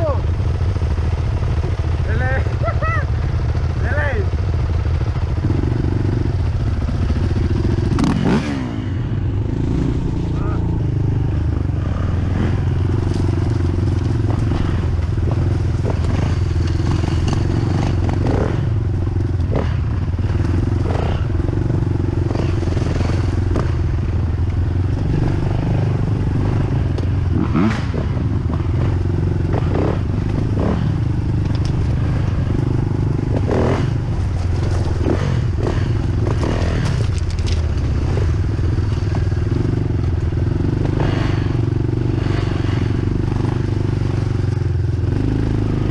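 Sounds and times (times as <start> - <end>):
dirt bike engine running: 0.0 - 45.9.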